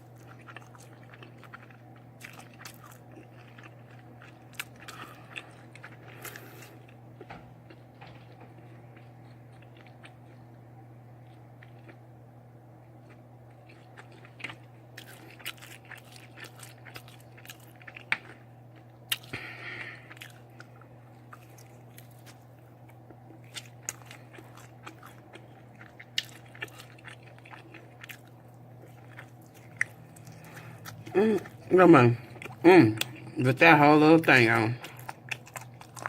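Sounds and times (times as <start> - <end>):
person chewing: 0.0 - 10.6, 11.2 - 12.1, 13.0 - 36.0.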